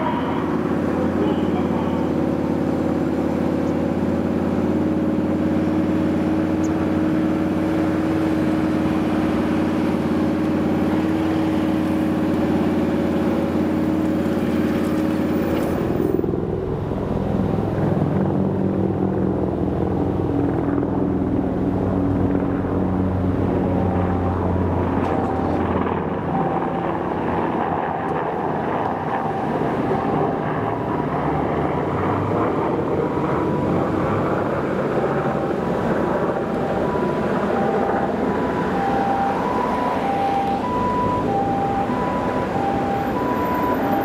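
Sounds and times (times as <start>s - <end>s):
vehicle mechanical drone: 0.0s - 44.0s.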